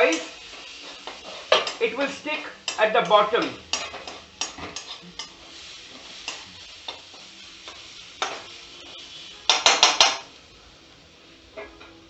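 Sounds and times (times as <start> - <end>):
oil sizzling: 0.0 - 12.0
metal spatula scraping wok: 0.3 - 10.0.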